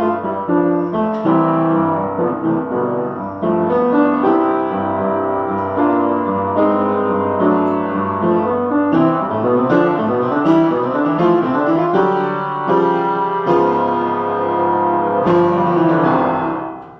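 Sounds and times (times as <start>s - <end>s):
solo piano classical piece: 0.0s - 16.9s.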